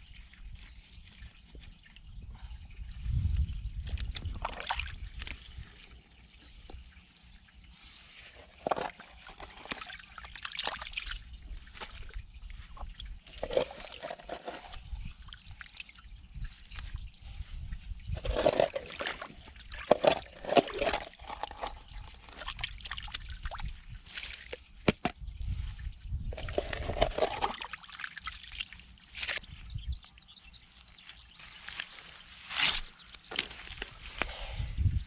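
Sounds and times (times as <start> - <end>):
water and mud sloshing: 0.0 - 25.6, 26.3 - 30.0, 30.6 - 34.6.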